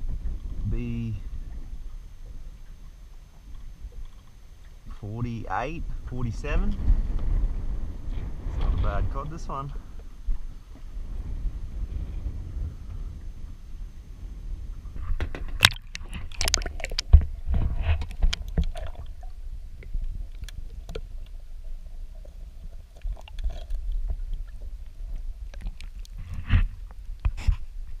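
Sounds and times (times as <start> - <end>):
low rumble: 0.0 - 28.0
underwater sloshing and gurgling: 0.0 - 28.0.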